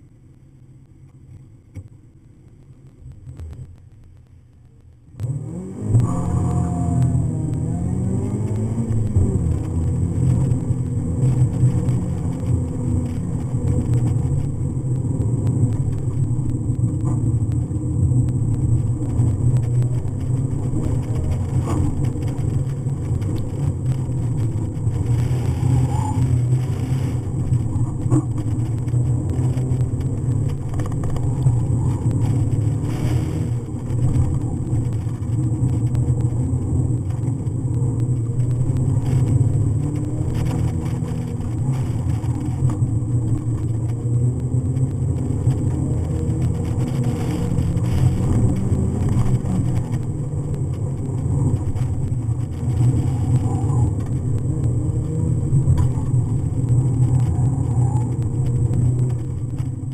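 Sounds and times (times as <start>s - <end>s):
car engine running: 0.0s - 59.9s
wind noise: 2.9s - 59.9s.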